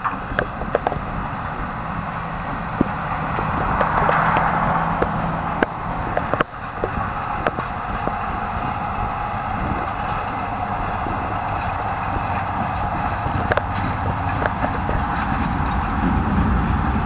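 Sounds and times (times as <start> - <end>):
train rolling past: 0.0 - 17.0
wheels clicking over rail joints: 0.0 - 17.0.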